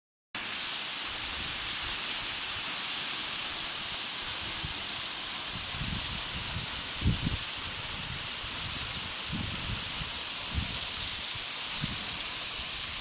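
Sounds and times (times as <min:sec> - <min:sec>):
waterfall rushing: 0:00.4 - 0:13.0.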